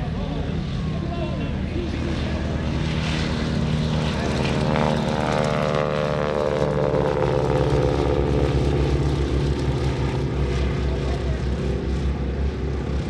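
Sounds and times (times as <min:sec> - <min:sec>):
biplanes flying past: 0:00.0 - 0:13.0.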